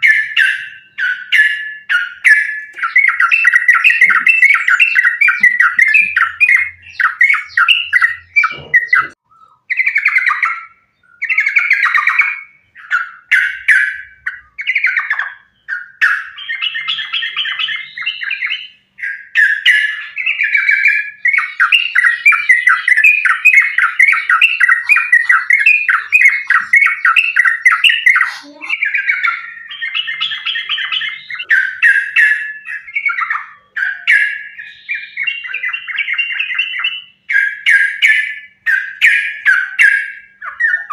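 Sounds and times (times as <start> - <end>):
bird singing rapid chattering notes: 0.0 - 40.9.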